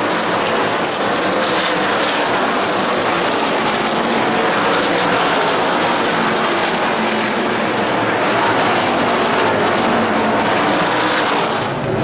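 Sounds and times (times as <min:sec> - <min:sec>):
race truck engines roaring past: 0:00.0 - 0:12.0.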